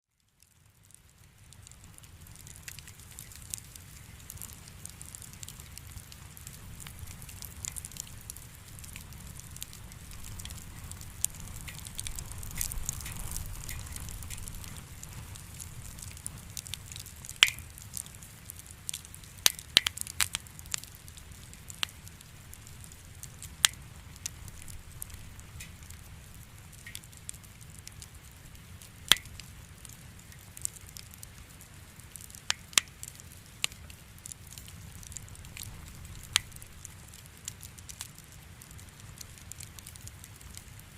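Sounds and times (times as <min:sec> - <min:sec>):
campfire burning: 0:00.1 - 0:40.9
firewood crackling and popping: 0:00.1 - 0:40.9.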